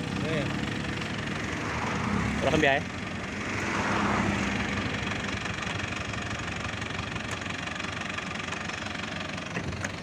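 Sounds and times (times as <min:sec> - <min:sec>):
tractor diesel engine idling: 0:00.0 - 0:10.0.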